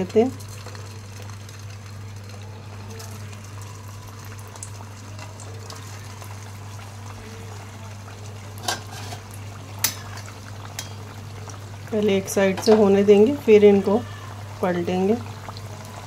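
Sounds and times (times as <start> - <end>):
oil sizzling and bubbling: 0.0 - 16.0.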